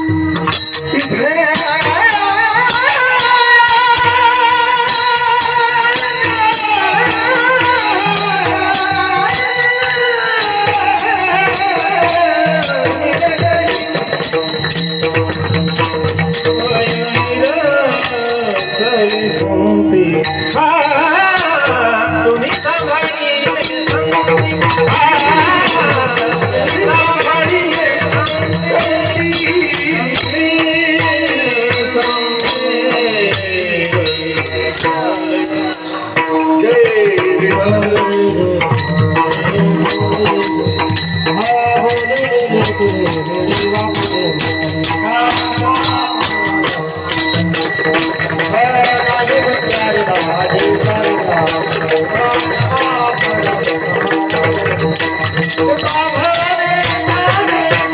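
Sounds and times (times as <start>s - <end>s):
voices singing devotional song: 0.0s - 57.9s
hand drum: 6.0s - 20.7s, 21.4s - 57.9s.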